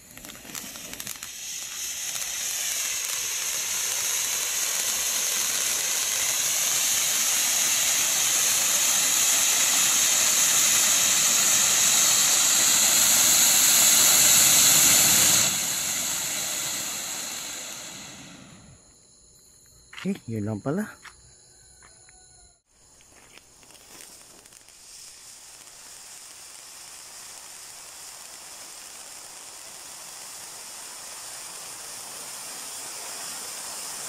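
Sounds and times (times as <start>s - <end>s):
firework fountain hissing sparks: 0.0s - 18.8s, 22.8s - 34.0s.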